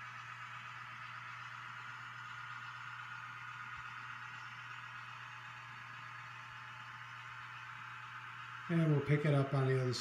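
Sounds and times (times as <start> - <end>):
model train diesel hum: 0.0 - 10.0.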